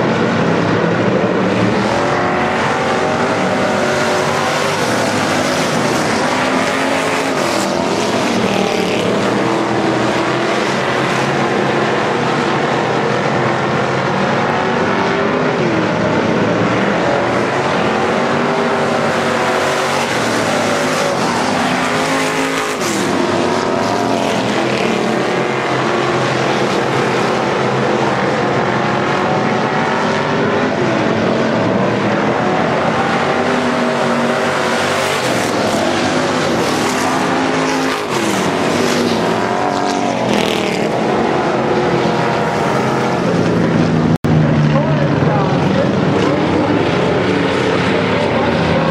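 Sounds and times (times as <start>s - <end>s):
race car engines revving: 0.0s - 48.9s.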